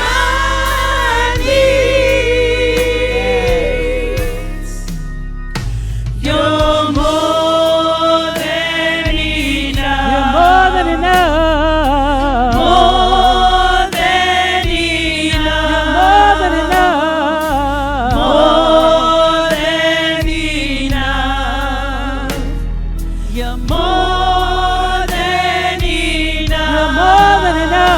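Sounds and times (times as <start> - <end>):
band accompaniment: 0.0 - 27.9
gospel choir singing: 0.0 - 27.9.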